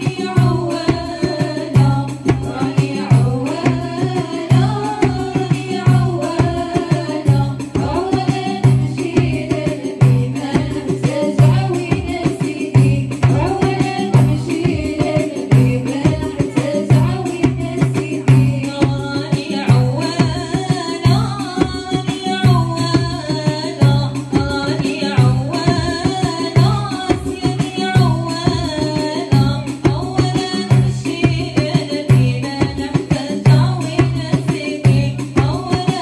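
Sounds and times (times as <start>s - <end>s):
hand drum beat: 0.0s - 36.0s
woman singing: 0.0s - 36.0s.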